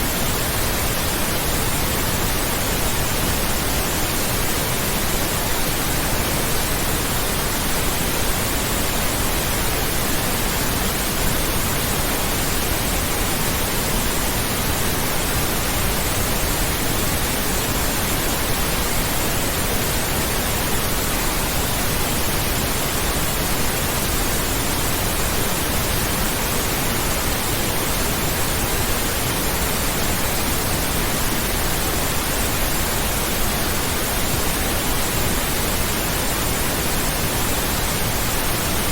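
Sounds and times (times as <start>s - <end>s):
steady pink noise: 0.0s - 38.9s.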